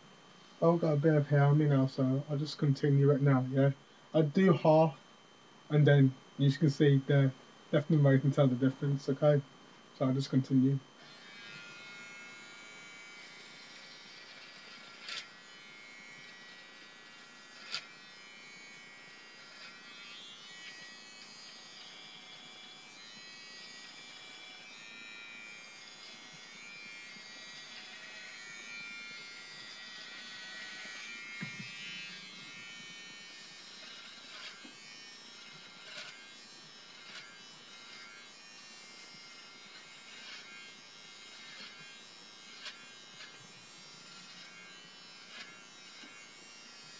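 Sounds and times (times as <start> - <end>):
electric beard trimmer buzzing: 0.8 - 9.4, 10.0 - 46.9.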